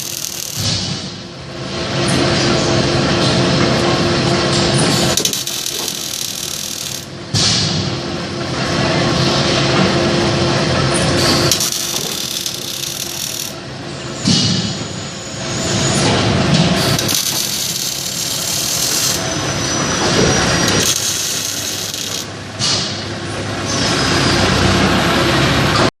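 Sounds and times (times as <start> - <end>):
factory machinery and tool noise: 0.0 - 25.9.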